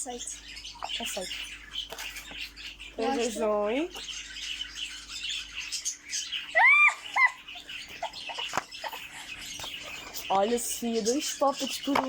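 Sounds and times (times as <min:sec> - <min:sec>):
bird chirping chatter: 0:00.0 - 0:12.0.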